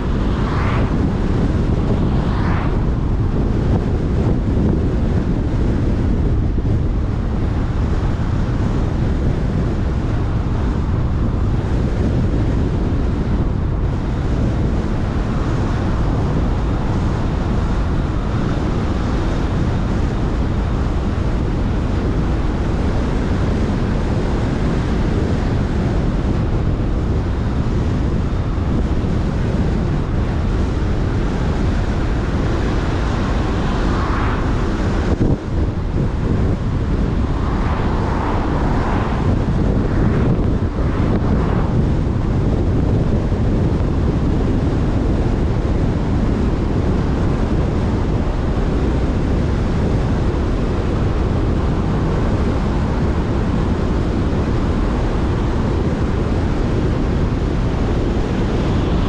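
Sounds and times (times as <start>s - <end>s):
car tyre rumble on asphalt: 0.0s - 59.0s
wind on microphone: 0.0s - 59.0s.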